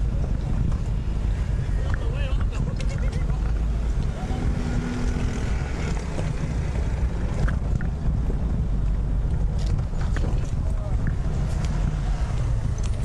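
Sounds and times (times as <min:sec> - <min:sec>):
low rumble of street noise: 0:00.0 - 0:13.0
wind buffeting microphone: 0:00.0 - 0:13.0.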